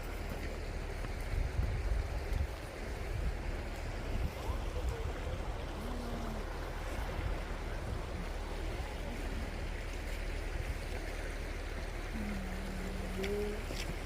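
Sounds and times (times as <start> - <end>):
vehicle road noise rumble: 0.0 - 14.0.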